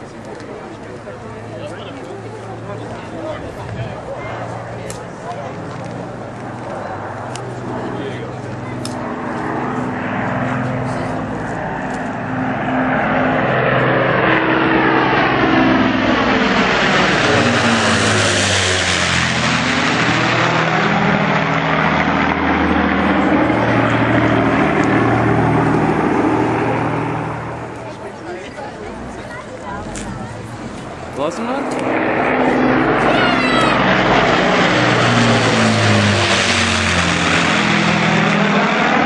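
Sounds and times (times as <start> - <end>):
piston aircraft engines droning: 0.0 - 39.0.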